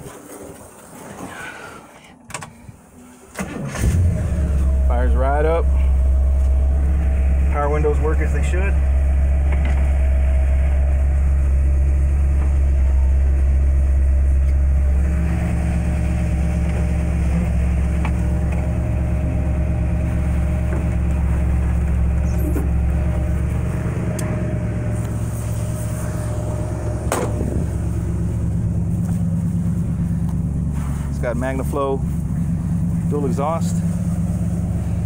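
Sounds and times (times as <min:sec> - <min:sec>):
car engine idling: 0:03.4 - 0:35.0.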